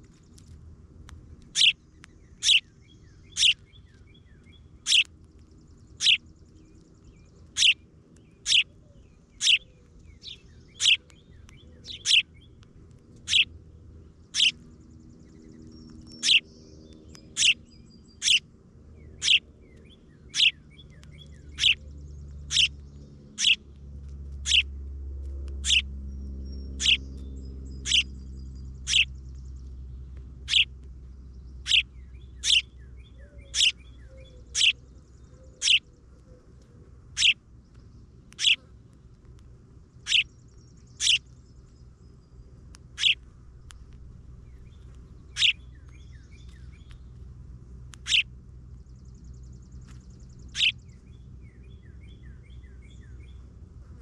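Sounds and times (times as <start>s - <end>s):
low steady rumble: 0.0s - 54.0s
songbird high chirp: 1.3s - 53.6s
faint bird twittering: 1.5s - 12.6s, 13.2s - 13.5s, 14.2s - 23.7s, 24.4s - 24.7s, 25.5s - 38.7s, 39.9s - 47.2s, 47.9s - 54.0s.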